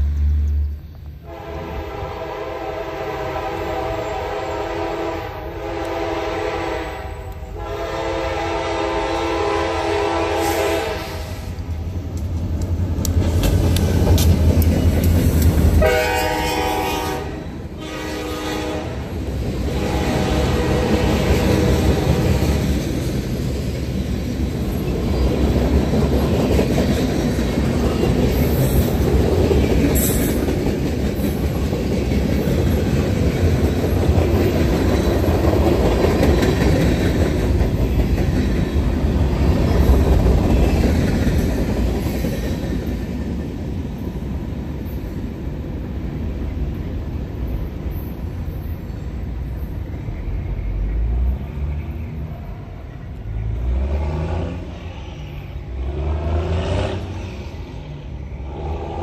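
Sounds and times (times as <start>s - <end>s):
freight train rumbling on rails: 0.0s - 59.0s.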